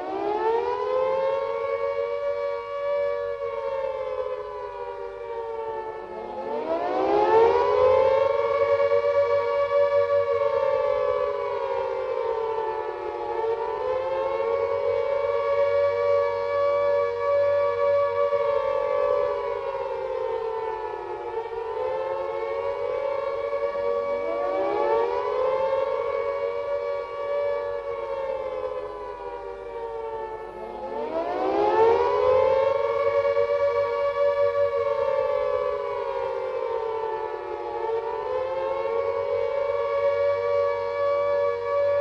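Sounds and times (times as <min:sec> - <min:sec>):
air raid siren winding: 0:00.0 - 0:42.0.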